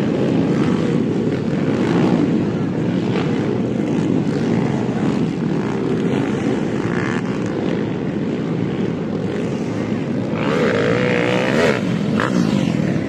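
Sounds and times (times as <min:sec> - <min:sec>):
motocross bike engines droning: 0:00.0 - 0:13.0.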